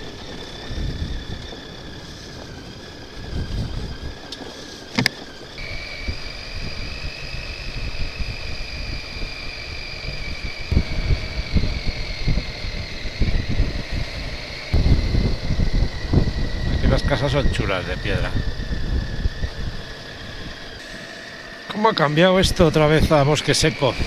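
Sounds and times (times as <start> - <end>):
wind rumble on microphone: 0.0 - 21.6, 22.4 - 24.0
motorcycle engine whine: 0.0 - 24.0.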